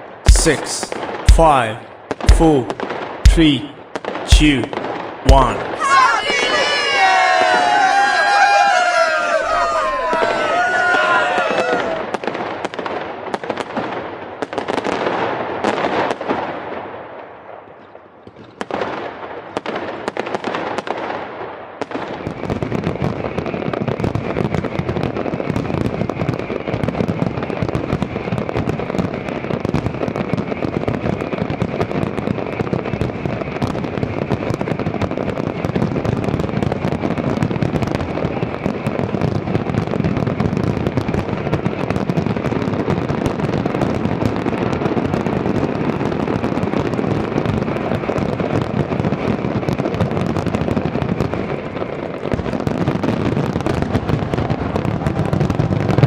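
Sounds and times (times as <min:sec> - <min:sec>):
fireworks bangs and crackling: 0:00.0 - 0:08.5, 0:09.6 - 0:56.0.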